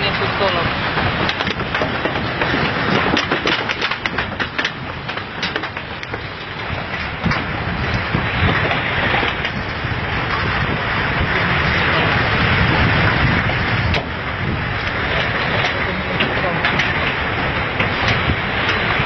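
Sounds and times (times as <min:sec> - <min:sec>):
continuous rumble: 0:00.0 - 0:19.0.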